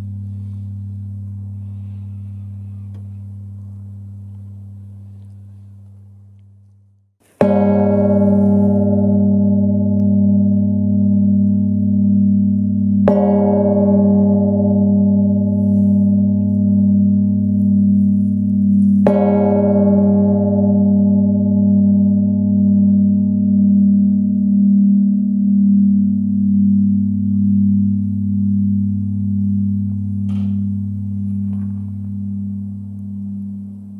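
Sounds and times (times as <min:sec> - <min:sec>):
church bell ringing: 0:00.0 - 0:05.8, 0:07.4 - 0:33.9.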